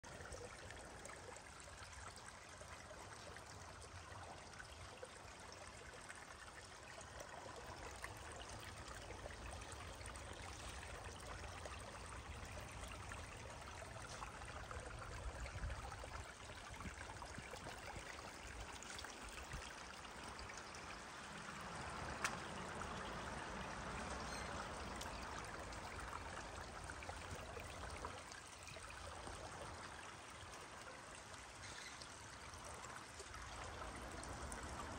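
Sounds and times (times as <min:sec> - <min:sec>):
stream trickling over stones: 0:00.0 - 0:34.9.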